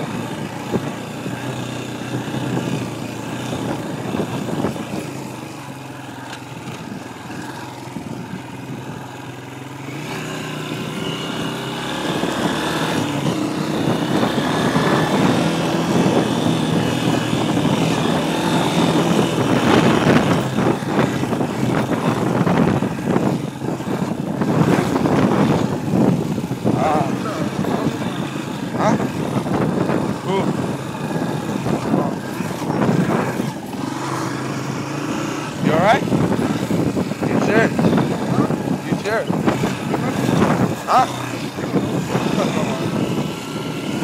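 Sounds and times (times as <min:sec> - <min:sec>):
dirt bike engine running: 0:00.0 - 0:44.0.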